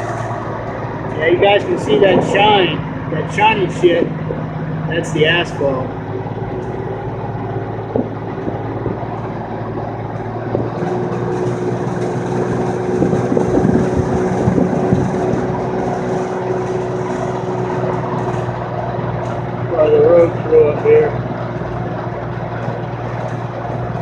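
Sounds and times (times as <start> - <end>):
steady hum: 0.0 - 24.0
vehicle engine and road noise: 0.0 - 24.0
wind: 0.0 - 24.0.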